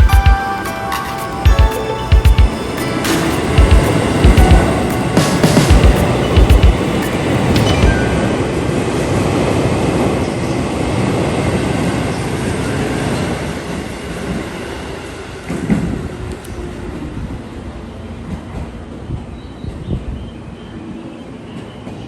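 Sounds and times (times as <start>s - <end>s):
sharp clicks from train wheels: 0.0s - 8.1s, 10.8s - 22.0s
train rumbling on rails: 0.0s - 22.0s.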